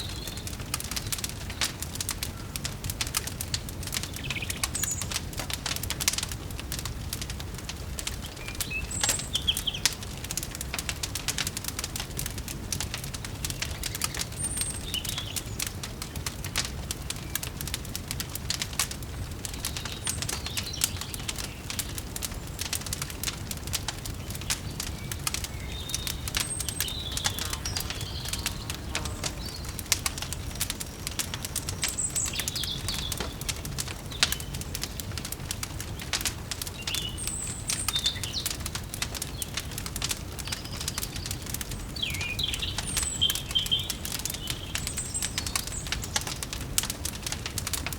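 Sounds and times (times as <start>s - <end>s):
birds chirping: 0.0s - 6.1s, 8.0s - 11.7s, 12.9s - 16.3s, 19.0s - 47.0s
wood fire crackling and popping: 0.0s - 47.9s.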